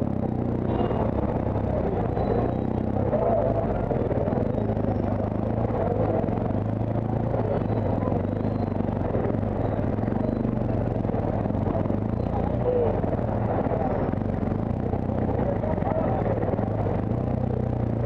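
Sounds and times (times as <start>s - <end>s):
motorcycle engine running: 0.0s - 18.0s
surrounding traffic noise: 0.0s - 18.0s.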